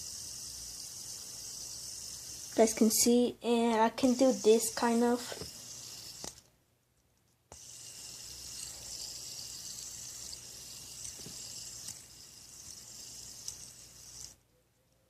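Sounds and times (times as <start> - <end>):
fidget spinner whirring: 0.0 - 6.5, 7.5 - 14.5.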